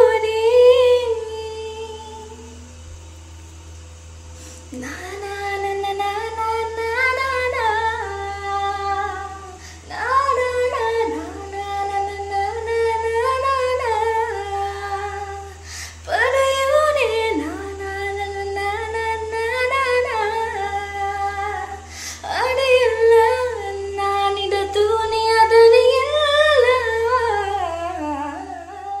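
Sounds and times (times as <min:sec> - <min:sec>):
woman singing: 0:00.0 - 0:02.6, 0:04.7 - 0:29.0
steady low hum: 0:00.0 - 0:29.0.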